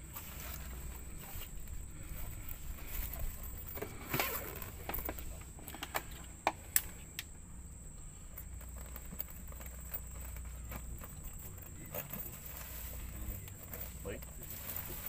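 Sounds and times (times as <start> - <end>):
low steady rumble: 0.0 - 15.0
fishing gear clicking and knocking: 0.5 - 7.3, 8.3 - 15.0.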